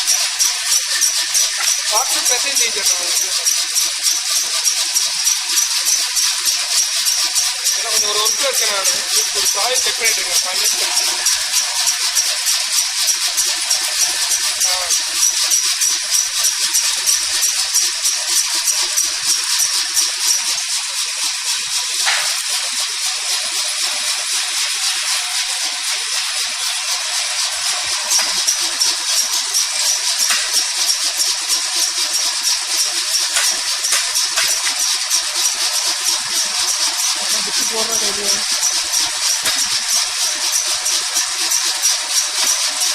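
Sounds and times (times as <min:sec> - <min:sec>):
coconut machine rattling hiss: 0:00.0 - 0:42.9.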